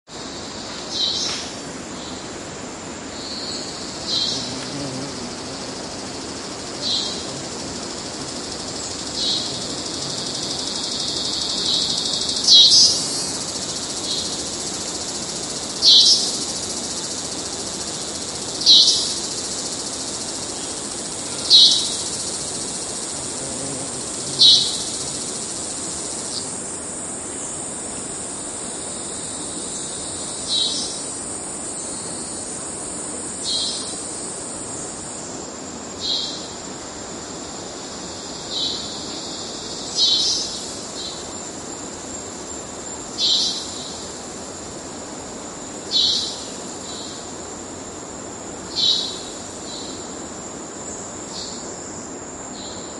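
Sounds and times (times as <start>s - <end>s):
cicada high-pitched drone: 3.0s - 52.9s.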